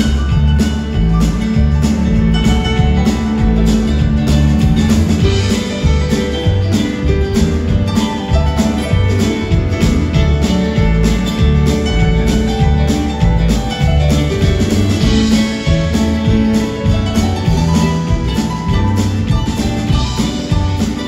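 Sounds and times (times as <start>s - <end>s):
acoustic guitar: 0.0s - 21.0s
keyboard: 0.0s - 21.0s
upright bass: 0.0s - 21.0s.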